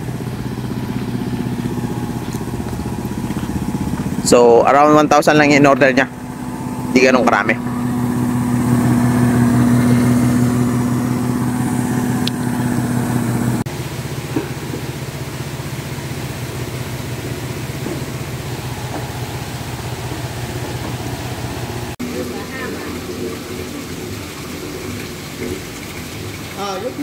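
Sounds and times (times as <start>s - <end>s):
small engine humming: 0.0s - 24.8s
low mechanical hum: 0.0s - 26.5s.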